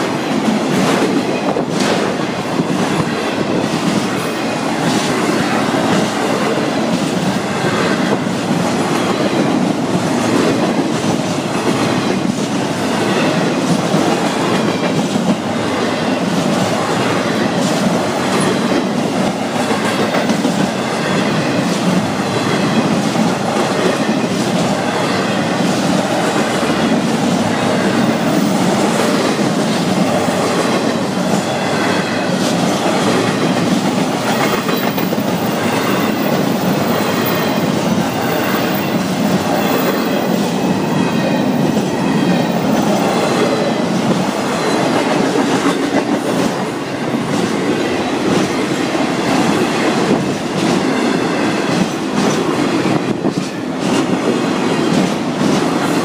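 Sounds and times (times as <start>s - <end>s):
freight train wheels clacking: 0.0s - 56.0s.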